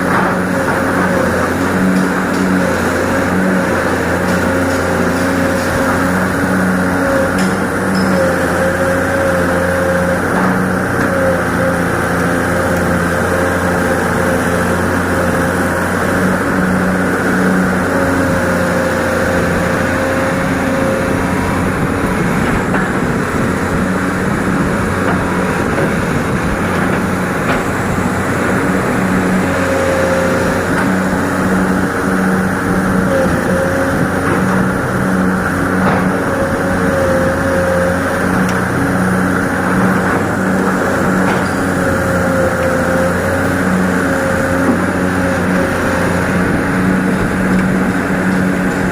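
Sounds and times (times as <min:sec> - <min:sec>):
excavator diesel engine digging: 0:00.0 - 0:48.9.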